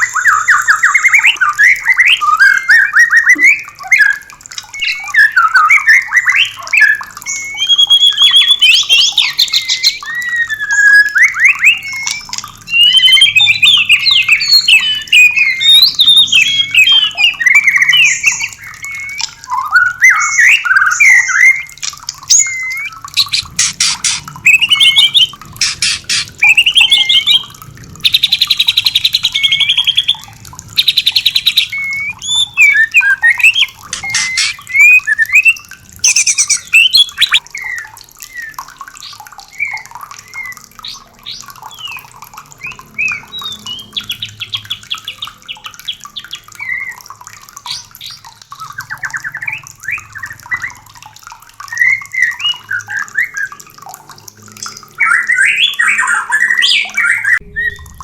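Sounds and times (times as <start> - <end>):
birds trilling and whistling: 0.0 - 58.0
faint flowing water: 0.0 - 58.0.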